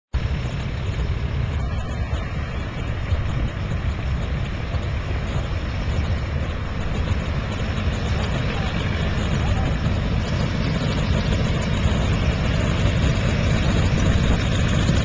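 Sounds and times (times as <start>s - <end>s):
biplane radial engine running: 0.1s - 15.0s.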